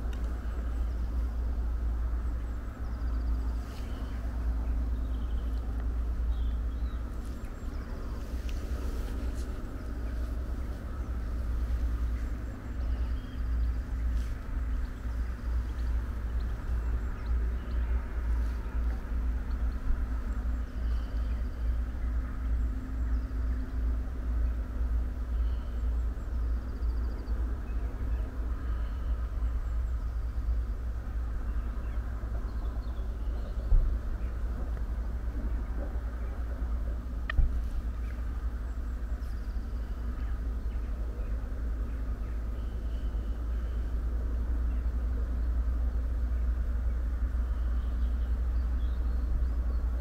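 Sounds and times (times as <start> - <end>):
faint hum: 0.0 - 50.0
low rumble: 0.0 - 50.0
small birds chirping: 0.0 - 50.0.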